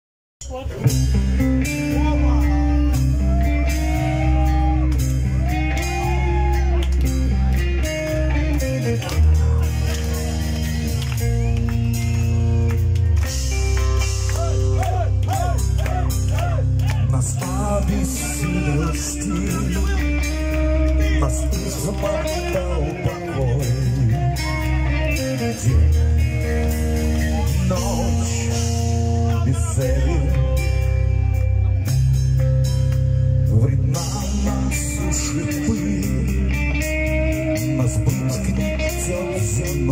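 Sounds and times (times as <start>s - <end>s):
heavy low accent: 0.4s - 39.9s
live rock band playing: 0.4s - 39.9s.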